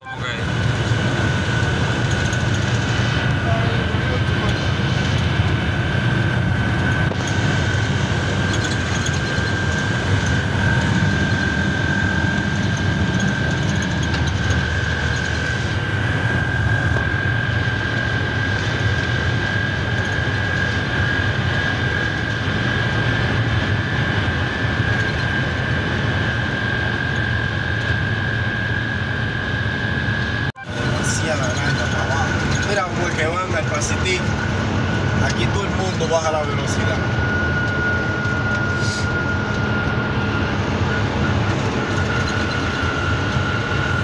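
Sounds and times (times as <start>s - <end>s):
constant high whine: 0.0s - 44.0s
truck engine and road noise: 0.0s - 44.0s.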